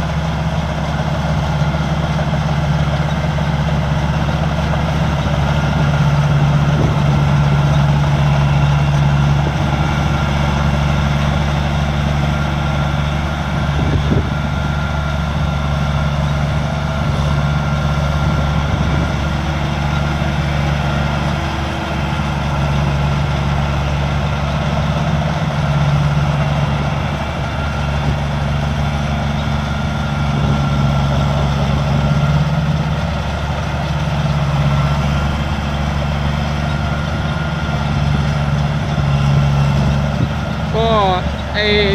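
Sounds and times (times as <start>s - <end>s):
combine harvester engine running: 0.0s - 41.9s.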